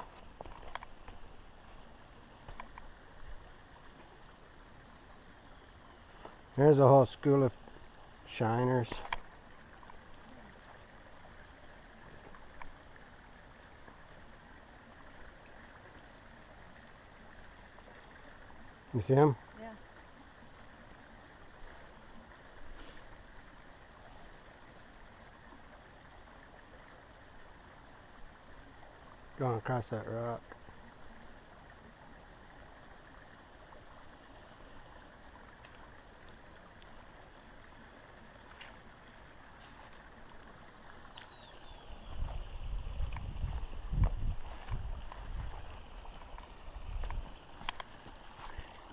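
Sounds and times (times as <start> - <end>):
creek water flowing: 0.0 - 48.9.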